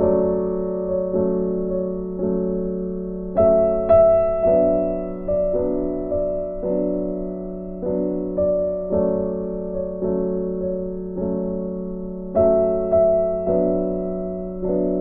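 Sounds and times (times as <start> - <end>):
gentle solo piano music: 0.0 - 15.0.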